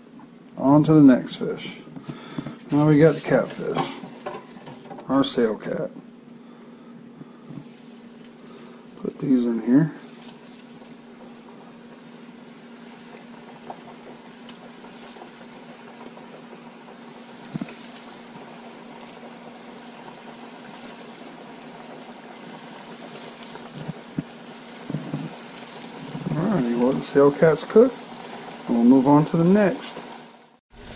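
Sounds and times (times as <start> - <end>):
oil sizzling and bubbling: 0.0 - 30.9.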